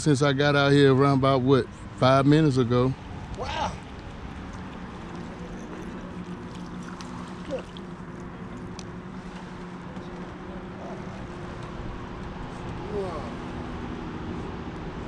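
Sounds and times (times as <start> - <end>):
motor running steadily: 0.2 - 15.0.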